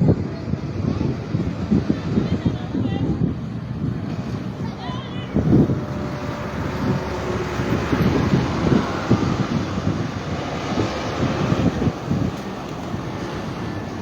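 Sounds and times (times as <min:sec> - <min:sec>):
road traffic rumble: 0:00.0 - 0:14.0
wind buffeting microphone: 0:00.0 - 0:14.0.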